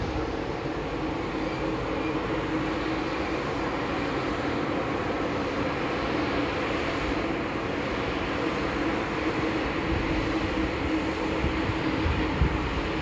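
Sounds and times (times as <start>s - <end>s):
jet engines rushing drone: 0.0s - 13.0s.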